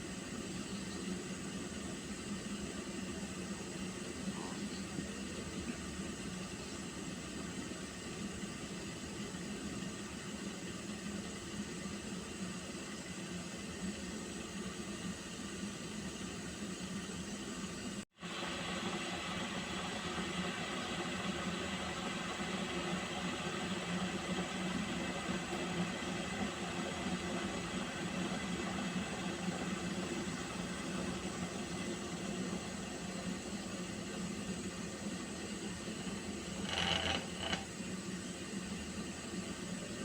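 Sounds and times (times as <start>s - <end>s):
pot of water hissing: 0.0s - 40.0s.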